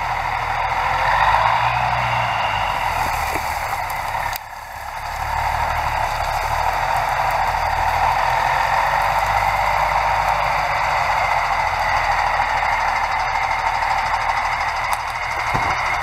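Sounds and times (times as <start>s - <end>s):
dump truck engine idling: 0.0s - 16.0s.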